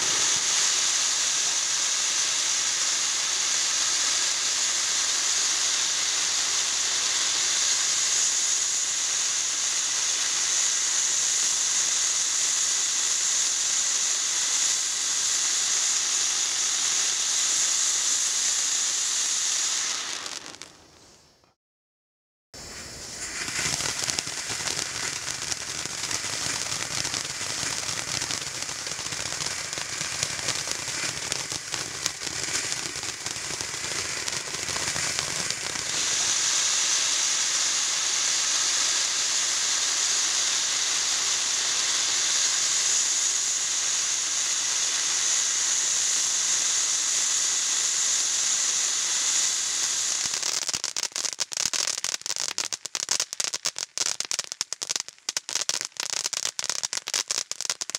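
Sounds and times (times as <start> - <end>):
fountain firework hissing: 0.0 - 21.5, 22.6 - 57.9.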